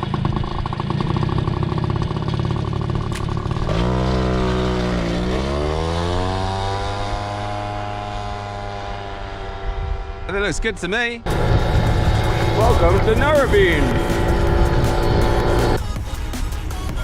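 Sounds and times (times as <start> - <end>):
scooter engine puttering: 0.0 - 9.3, 11.2 - 15.8.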